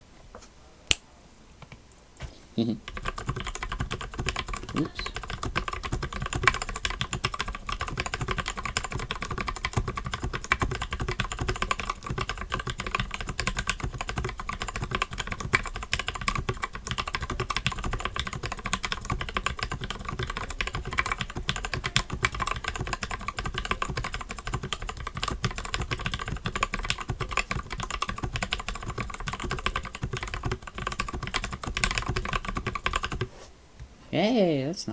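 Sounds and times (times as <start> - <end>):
fast typing on mechanical keyboard: 2.8 - 33.3.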